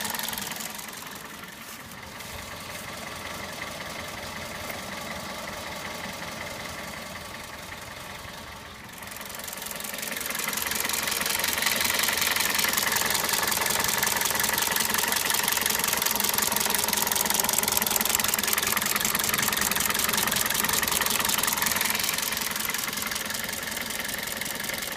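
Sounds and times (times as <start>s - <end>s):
rapid ticking clatter: 0.0s - 1.6s, 3.0s - 24.9s
car engine idling: 0.0s - 24.9s.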